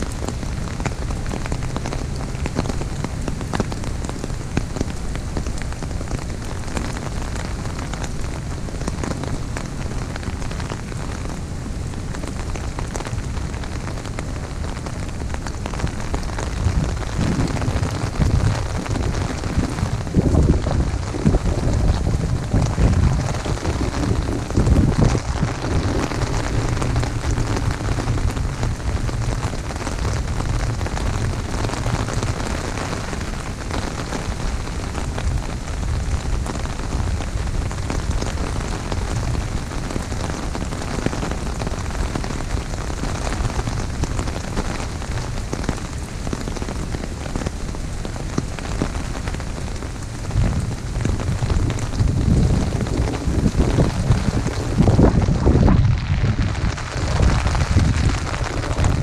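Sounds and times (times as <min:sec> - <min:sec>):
heavy rain on an umbrella: 0:00.0 - 0:59.0
wind rumble on microphone: 0:00.0 - 0:59.0.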